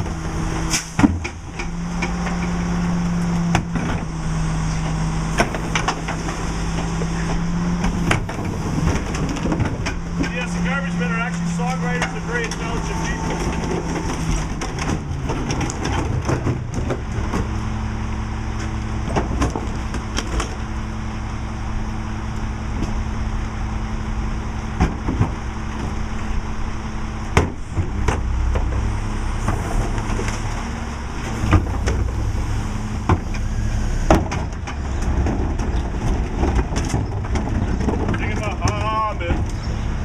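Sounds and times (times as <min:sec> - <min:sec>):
diesel truck engine humming: 0:00.0 - 0:40.0.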